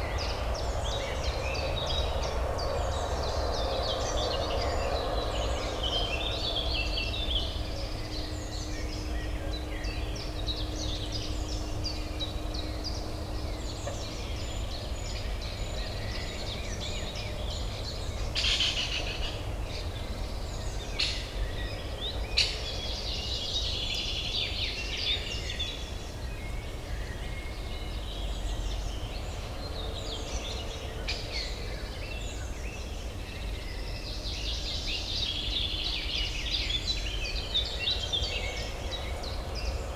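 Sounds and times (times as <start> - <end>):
low urban hum: 0.0 - 39.9
songbirds chirping and trilling: 0.0 - 39.9.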